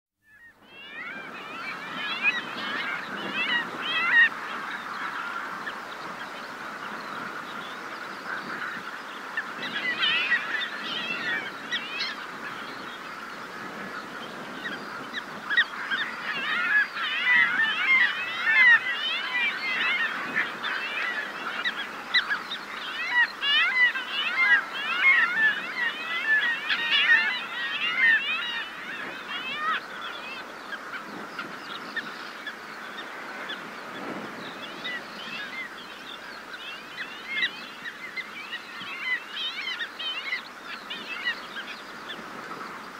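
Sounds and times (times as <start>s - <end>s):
wind: 0.2s - 42.9s
skuas calling: 0.3s - 42.2s.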